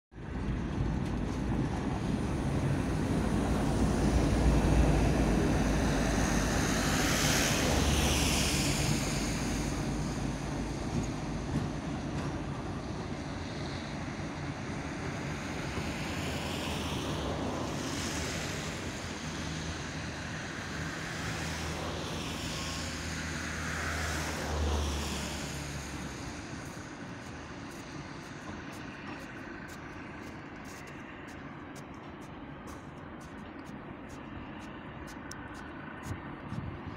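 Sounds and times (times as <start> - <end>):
diesel locomotive engine running: 0.2 - 36.9.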